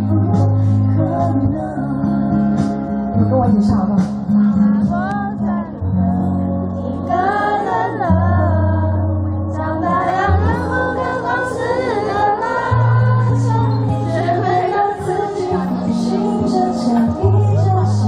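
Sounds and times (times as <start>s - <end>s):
woman singing a pop song: 0.0s - 2.8s, 4.3s - 18.0s
amplified backing music: 0.0s - 18.0s
held bass notes: 0.0s - 18.0s.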